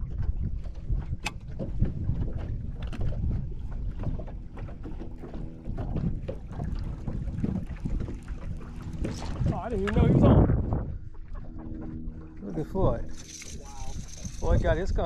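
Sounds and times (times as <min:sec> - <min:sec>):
waves lapping against boat hull: 0:00.0 - 0:15.0
wind buffeting microphone: 0:00.0 - 0:15.0.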